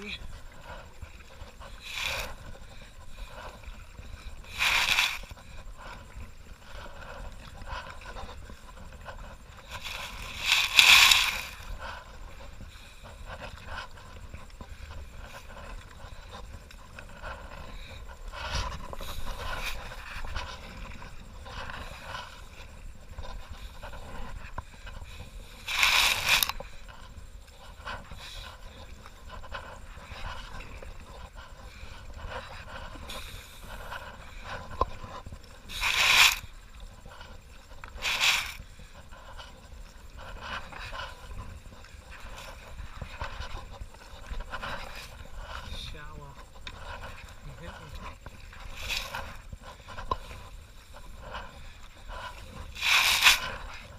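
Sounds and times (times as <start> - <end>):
soft paddle strokes: 0.0 - 53.9
water noise: 0.0 - 53.9.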